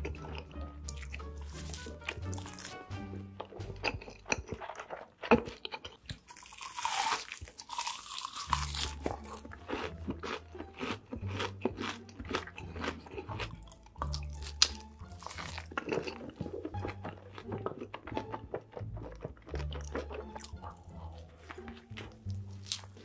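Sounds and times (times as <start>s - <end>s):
chewing pizza: 0.0s - 23.0s.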